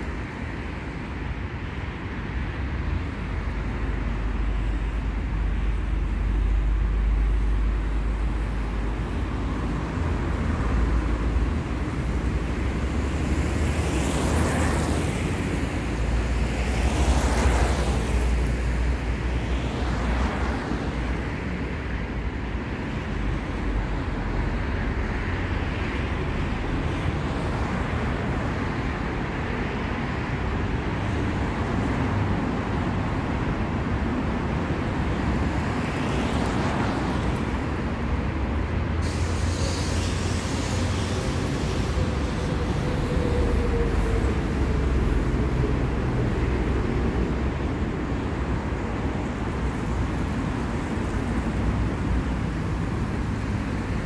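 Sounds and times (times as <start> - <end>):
traffic rumble: 0.0 - 54.0
vehicles passing close by: 0.0 - 54.0.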